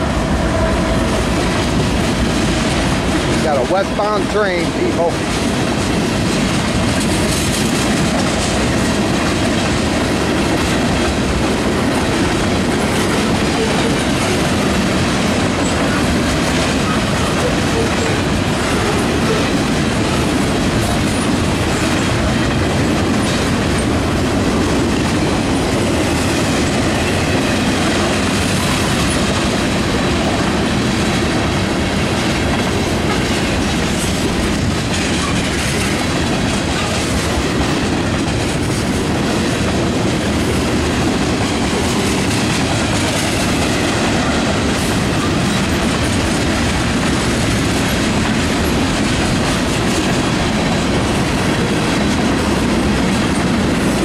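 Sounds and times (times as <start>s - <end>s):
steel wheels on rails: 0.0s - 54.0s.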